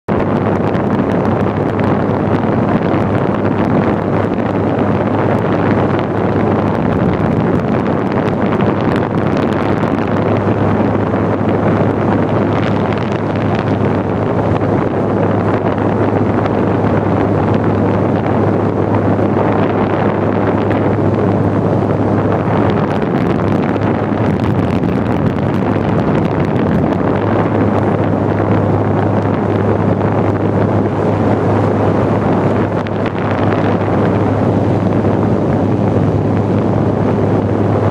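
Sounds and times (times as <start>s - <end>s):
fan air rushing on microphone: 0.1s - 37.9s
low motor hum: 0.1s - 37.9s.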